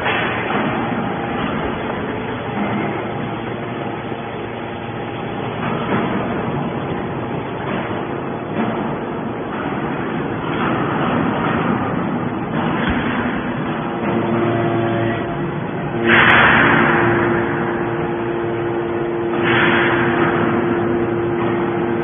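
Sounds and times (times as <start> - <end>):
hydraulic power unit humming: 0.0 - 22.0.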